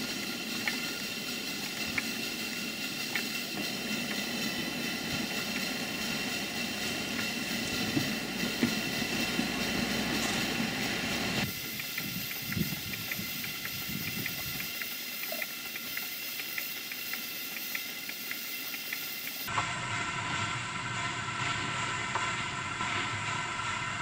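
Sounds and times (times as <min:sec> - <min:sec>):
light regular ticking: 0:00.0 - 0:19.5
steam engine running noise: 0:00.0 - 0:24.0
steam hissing: 0:00.0 - 0:24.0.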